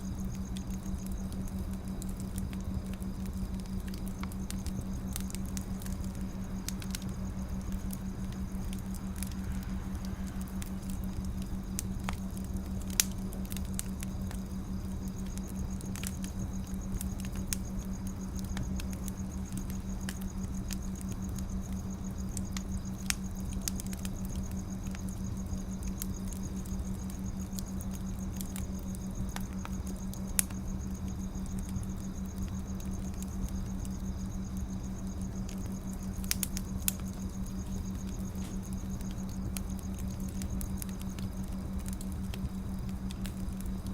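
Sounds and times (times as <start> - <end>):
firewood crackling and popping: 0.0 - 43.9
steady low hum: 0.0 - 43.9.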